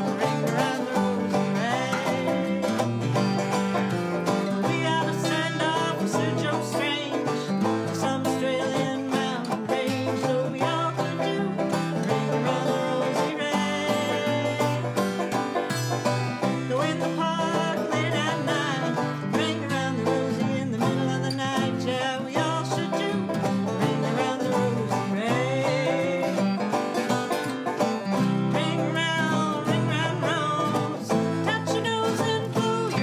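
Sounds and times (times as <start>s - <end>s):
acoustic guitar: 0.0s - 33.0s
banjo: 0.0s - 33.0s.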